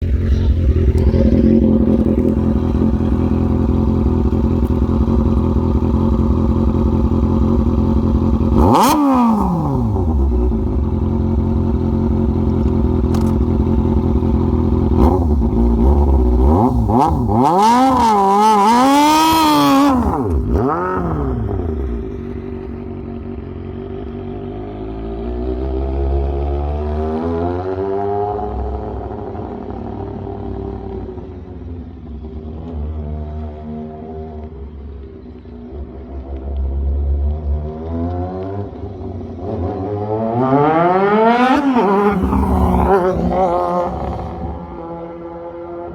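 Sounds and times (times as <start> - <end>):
engine idling and revving: 0.0 - 45.9.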